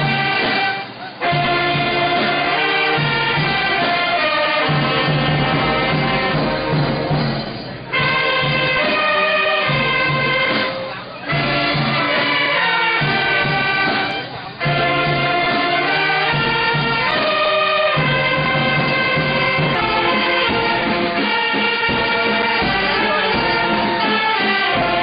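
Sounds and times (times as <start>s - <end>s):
brass band with saxophones: 0.0s - 25.0s.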